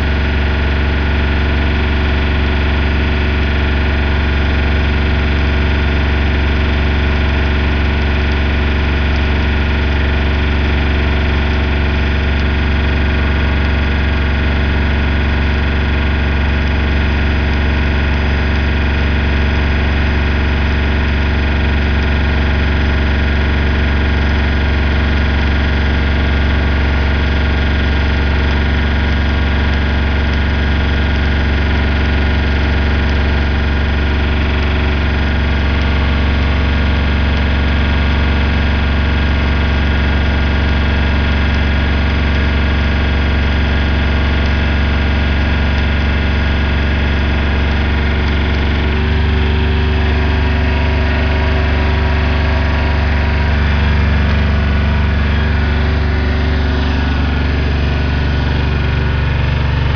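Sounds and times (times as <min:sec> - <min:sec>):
generator engine humming: 0:00.0 - 0:59.9.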